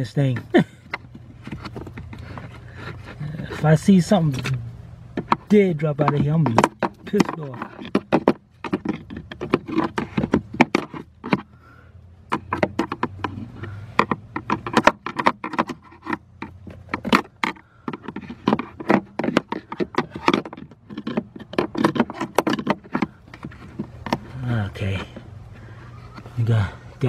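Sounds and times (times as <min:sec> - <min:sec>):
screwdriver scraping plastic: 0:00.3 - 0:04.6, 0:05.2 - 0:11.5, 0:12.3 - 0:24.3.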